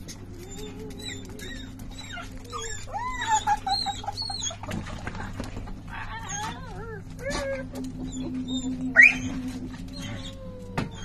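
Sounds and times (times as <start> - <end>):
dog whining: 0.0 - 11.0.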